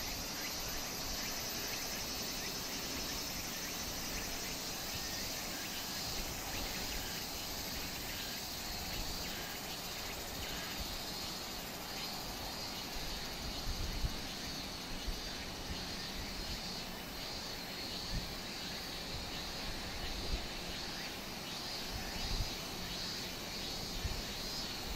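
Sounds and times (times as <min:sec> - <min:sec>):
insects chorus: 0:00.0 - 0:24.9.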